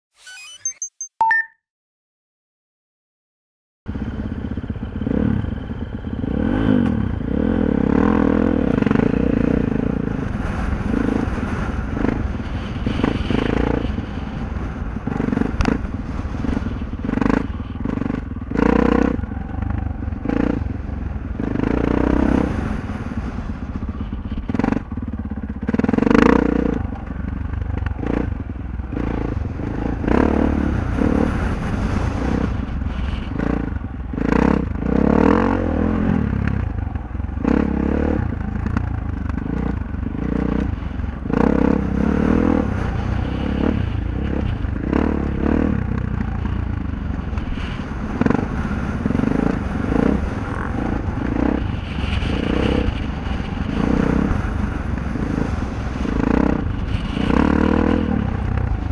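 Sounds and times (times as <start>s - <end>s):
dirt bike engine revving: 4.0s - 58.9s.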